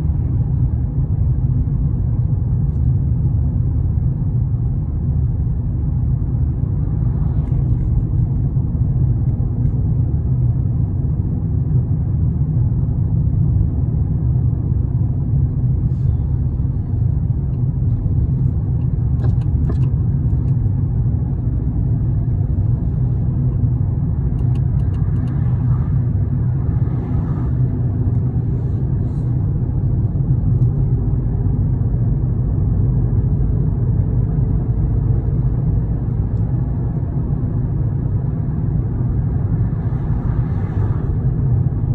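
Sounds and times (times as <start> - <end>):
vehicle rumbling on road: 0.0 - 41.9.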